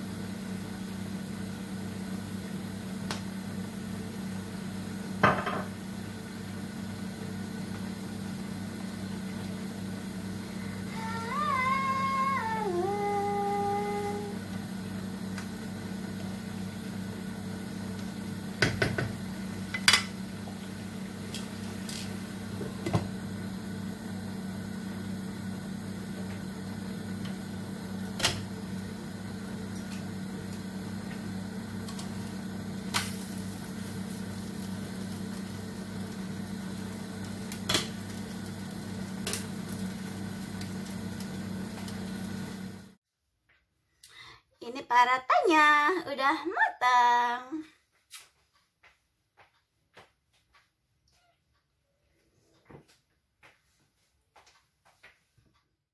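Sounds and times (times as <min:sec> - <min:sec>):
low kitchen hum: 0:00.0 - 0:55.8.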